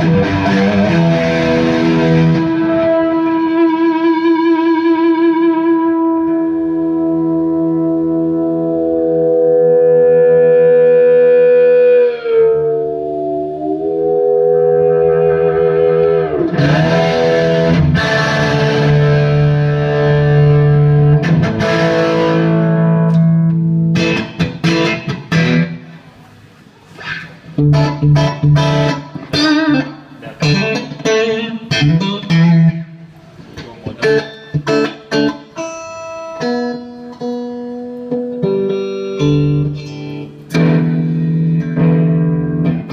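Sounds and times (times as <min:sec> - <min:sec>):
overdriven electric guitar: 0:00.0 - 0:42.9.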